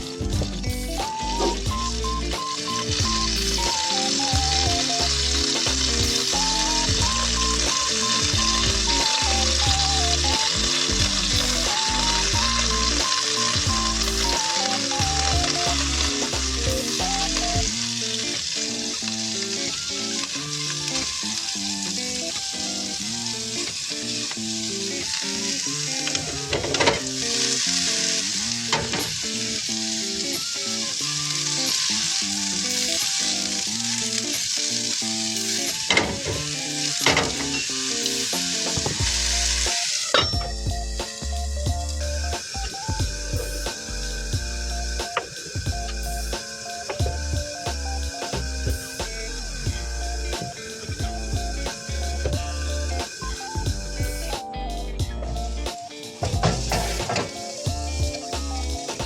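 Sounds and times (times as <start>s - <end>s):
background music: 0.0s - 59.0s
food sizzling in a pan: 0.0s - 59.0s.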